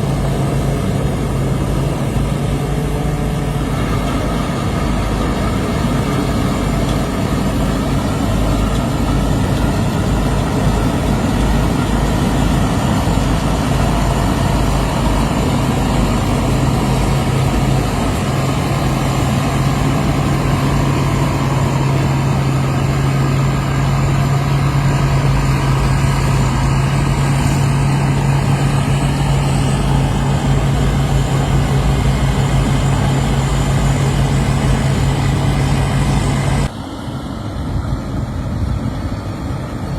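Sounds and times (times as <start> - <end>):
combine harvester diesel engine: 0.0 - 39.9
low hum: 0.0 - 39.9.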